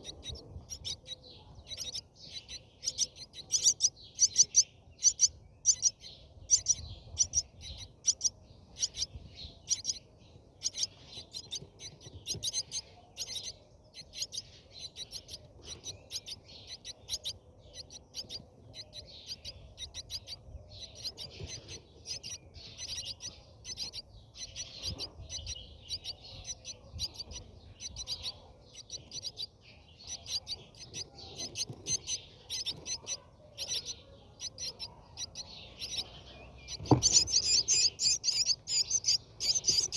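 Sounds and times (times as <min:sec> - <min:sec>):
starlings chirping: 0:00.0 - 0:39.9.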